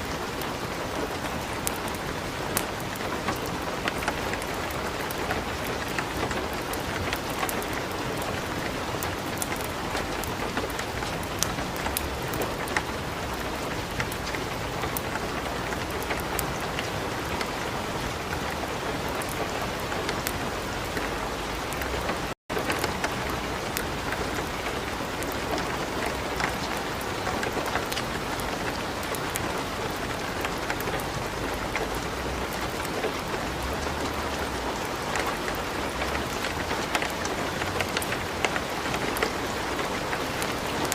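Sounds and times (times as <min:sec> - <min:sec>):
light rain: 0:00.0 - 0:40.9
wood fire crackling: 0:00.6 - 0:20.4, 0:21.7 - 0:40.9.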